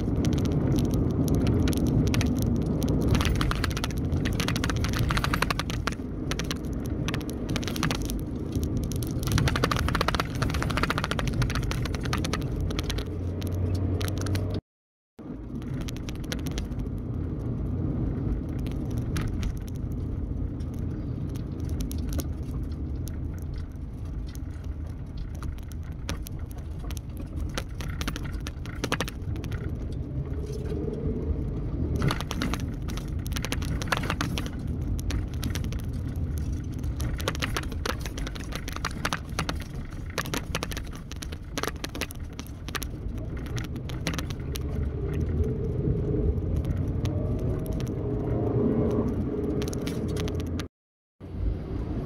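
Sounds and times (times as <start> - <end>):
car road noise rumble: 0.0 - 14.6, 15.2 - 52.0.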